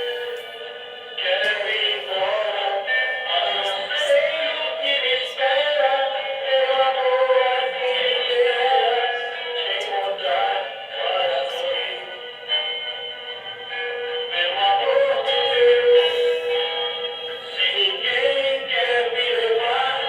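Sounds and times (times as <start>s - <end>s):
music with singing: 0.0s - 20.0s.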